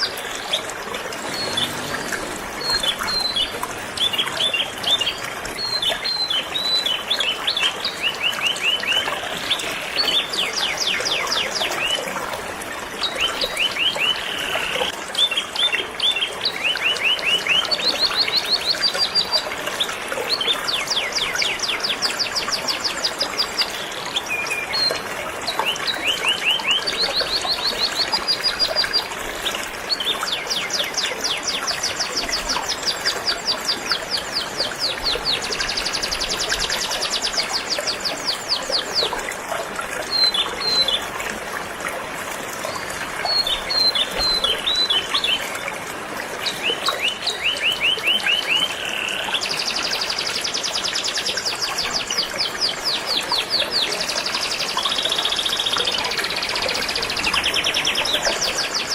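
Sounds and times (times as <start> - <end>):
flowing river water: 0.0 - 58.9.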